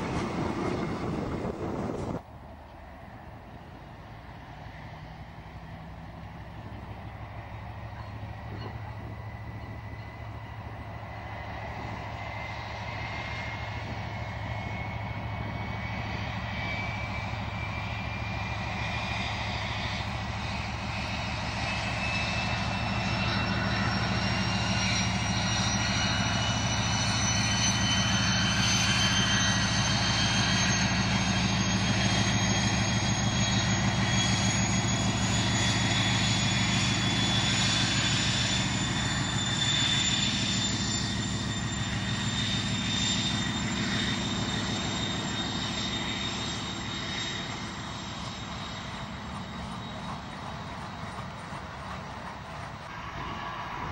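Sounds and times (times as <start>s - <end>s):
diesel locomotive passing: 0.0s - 53.9s.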